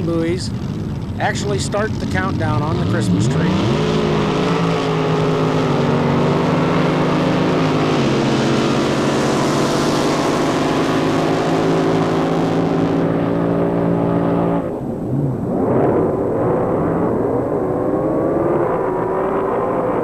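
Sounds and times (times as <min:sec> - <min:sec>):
boat engine running loud: 0:00.0 - 0:20.0.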